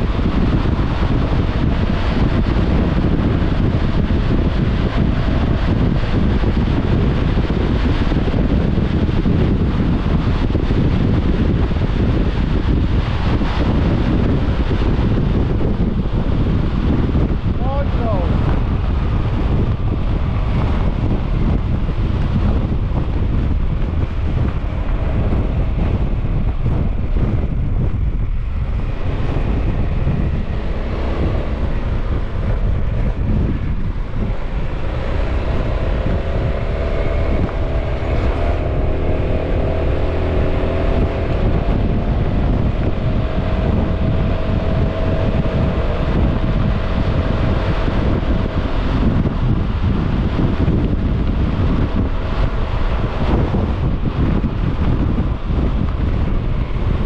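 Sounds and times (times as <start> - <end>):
scooter engine running: 0.0 - 57.0
wind buffeting microphone: 0.0 - 57.0.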